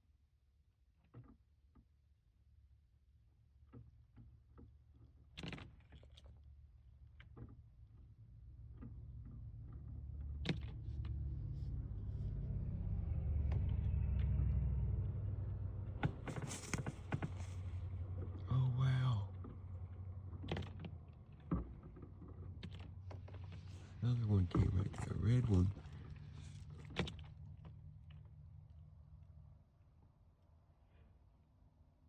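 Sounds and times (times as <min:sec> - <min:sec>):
low vehicle engine rumble: 0:06.0 - 0:32.0.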